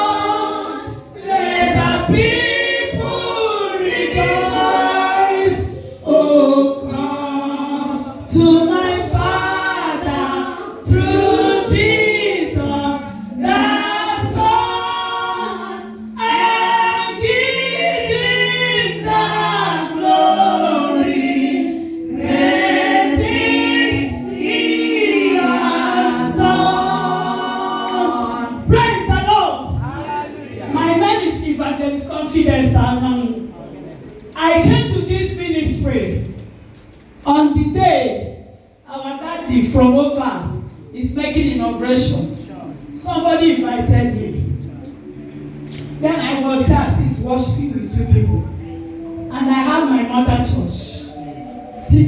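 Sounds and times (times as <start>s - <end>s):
choir singing gospel: 0.0s - 52.0s.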